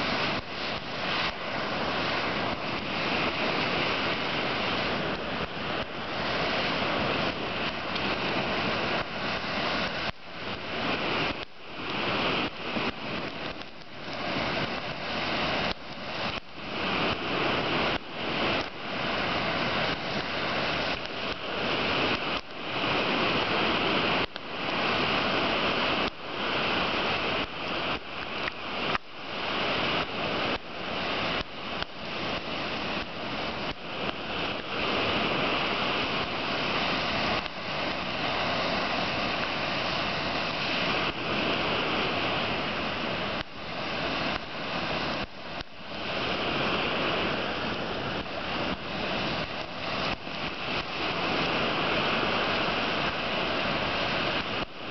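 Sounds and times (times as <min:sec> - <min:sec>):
lake surf washing on beach: 0:00.0 - 0:54.9
wind: 0:00.0 - 0:54.9.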